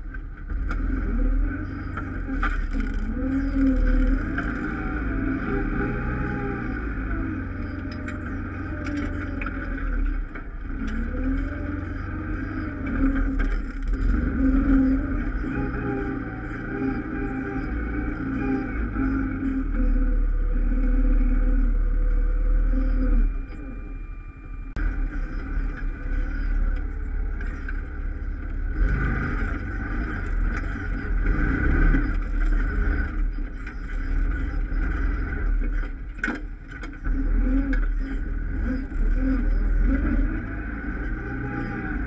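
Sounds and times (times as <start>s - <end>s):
atv engine running: 0.0s - 23.8s, 24.7s - 42.0s.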